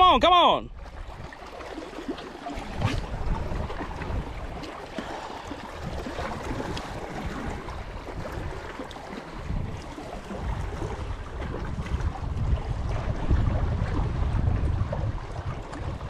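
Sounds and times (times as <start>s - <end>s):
small waves lapping on rocks: 0.0s - 16.0s
wind rumbling on microphone: 0.6s - 16.0s.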